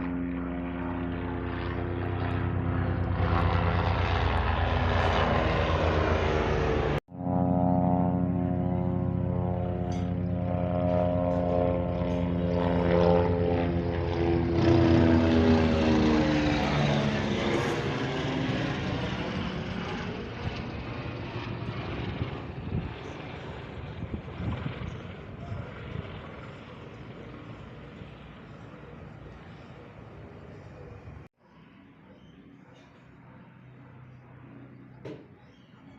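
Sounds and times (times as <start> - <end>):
helicopter flying past: 0.0 - 35.9.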